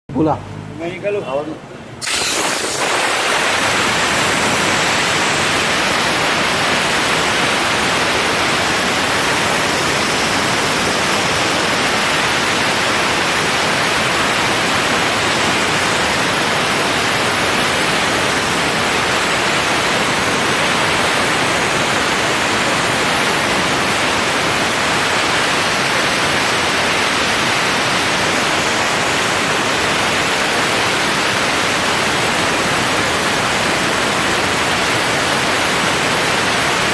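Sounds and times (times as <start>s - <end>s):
steam jet hissing: 2.0s - 36.9s.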